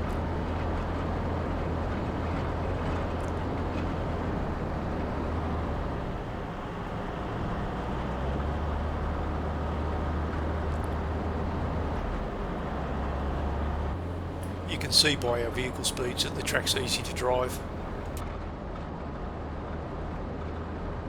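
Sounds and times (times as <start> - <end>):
vehicle engine running: 0.0 - 18.2.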